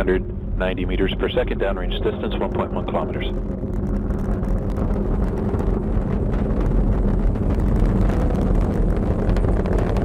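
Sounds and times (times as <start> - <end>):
rocket engines rumbling with crackling: 0.0 - 10.0.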